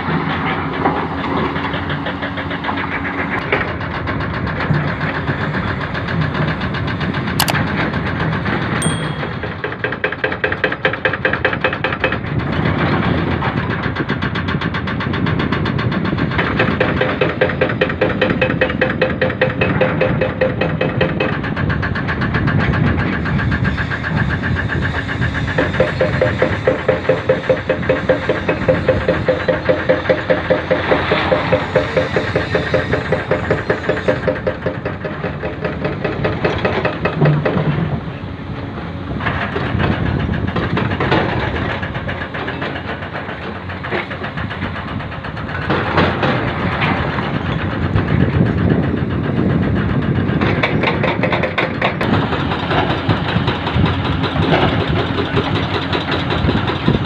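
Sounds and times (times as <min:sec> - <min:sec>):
excavator diesel engine running: 0:00.0 - 0:10.6, 0:11.9 - 0:57.0.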